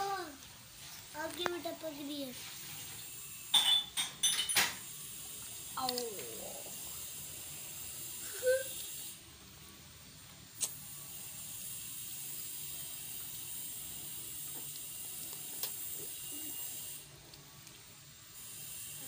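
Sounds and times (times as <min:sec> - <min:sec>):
room noise hiss: 0:00.0 - 0:19.0.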